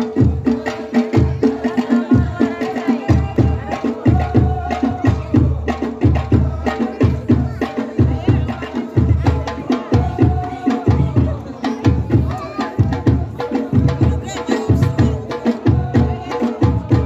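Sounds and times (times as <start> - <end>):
frame drums beating: 0.0 - 17.0
voices singing held notes: 0.0 - 17.0.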